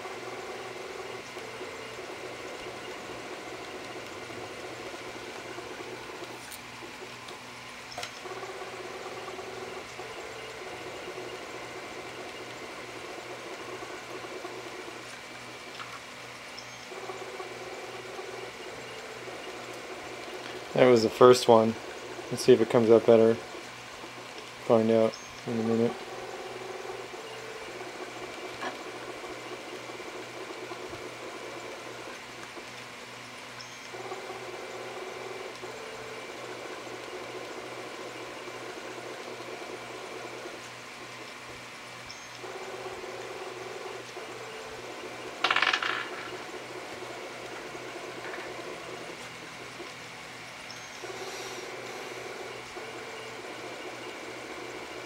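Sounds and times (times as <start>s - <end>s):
stepper motors humming: 0.0s - 55.0s.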